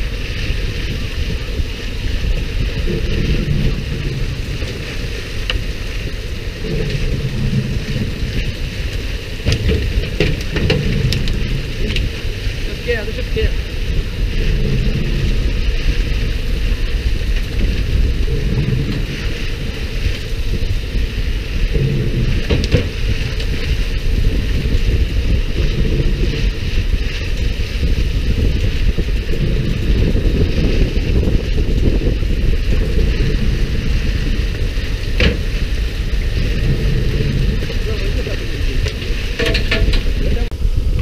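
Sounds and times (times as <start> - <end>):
boat engine rumbling: 0.0 - 41.0
water splashing along hull: 0.0 - 41.0
wind buffeting microphone: 0.0 - 41.0.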